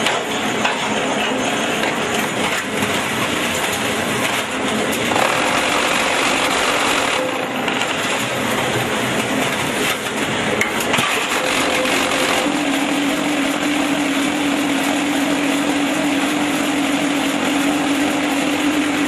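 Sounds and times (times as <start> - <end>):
block making machine rattling: 0.0 - 19.0.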